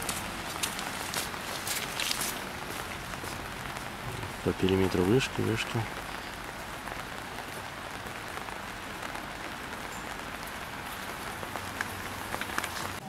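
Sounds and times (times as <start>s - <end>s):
rain on wet ground: 0.0s - 13.0s.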